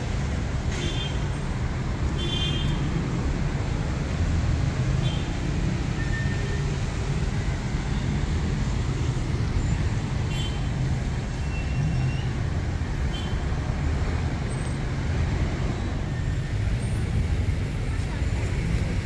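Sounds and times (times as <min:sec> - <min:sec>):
traffic on wet street: 0:00.0 - 0:19.0.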